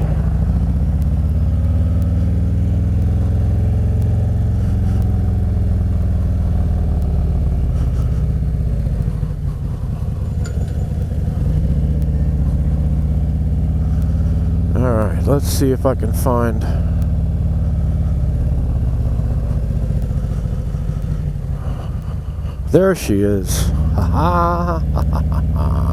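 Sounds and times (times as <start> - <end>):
motorcycle engine rumble: 0.0 - 25.9.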